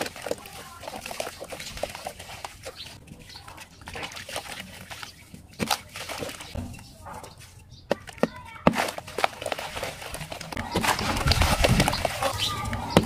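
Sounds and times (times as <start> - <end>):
crumbs falling into water: 0.0 - 6.6, 7.9 - 13.0
hands crushing cement chunks: 0.0 - 6.6, 7.9 - 13.0
water splashing: 0.0 - 13.0.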